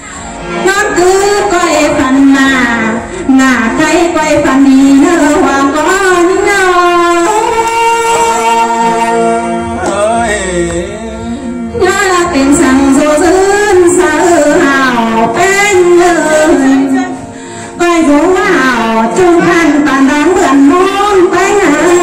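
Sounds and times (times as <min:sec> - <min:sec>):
woman singing into microphone: 0:00.0 - 0:09.4, 0:11.5 - 0:22.0.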